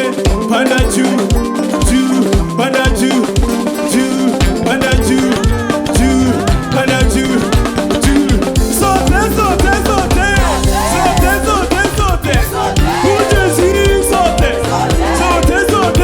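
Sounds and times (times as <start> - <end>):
drums: 0.0 - 16.0
voices singing and calling: 0.0 - 16.0
worship band playing groove: 0.0 - 16.0.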